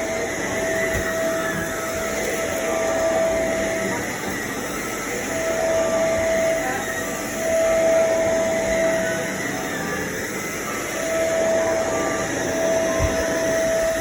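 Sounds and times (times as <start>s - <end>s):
vacuum cleaner running: 0.0s - 14.0s
vacuum motor whine: 0.0s - 14.0s.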